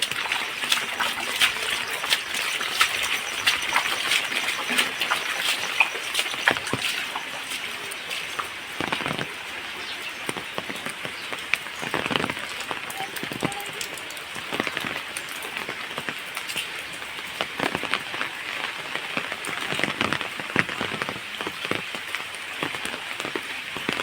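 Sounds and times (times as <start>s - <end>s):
rain falling: 0.0s - 24.0s
raindrops hitting surfaces: 0.0s - 24.0s.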